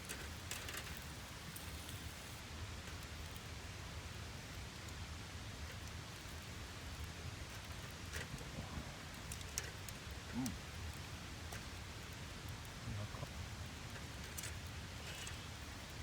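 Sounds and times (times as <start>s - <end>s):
fire popping: 0.0s - 3.4s, 4.2s - 16.0s
campfire crackling: 0.0s - 16.0s.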